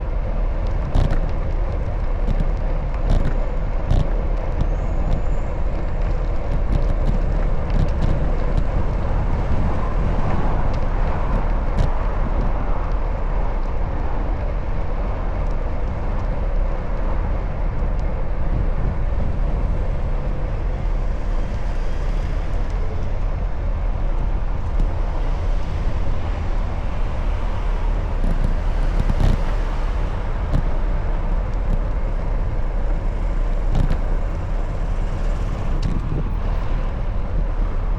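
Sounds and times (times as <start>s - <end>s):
bicycle road and wind noise: 0.0s - 37.9s
motor traffic: 0.0s - 37.9s.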